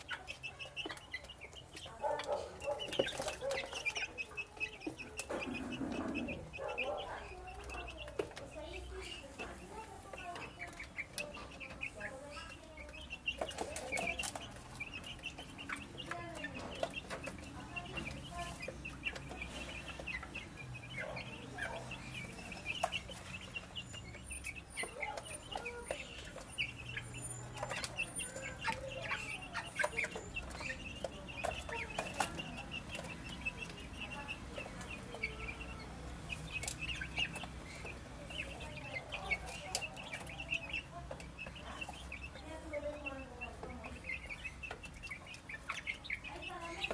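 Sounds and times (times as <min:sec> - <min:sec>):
beaks pecking at feed: 0:00.0 - 0:46.9
chicks peeping and clucking: 0:00.0 - 0:46.9.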